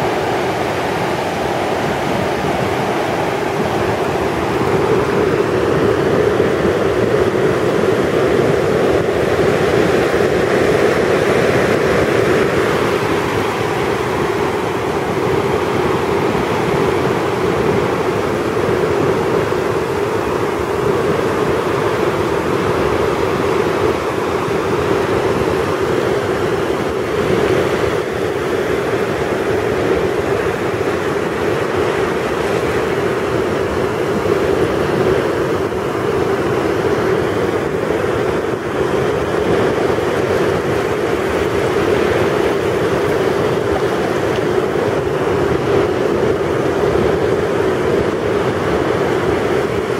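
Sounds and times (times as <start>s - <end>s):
shallow waves rushing on sand: 0.0s - 49.9s.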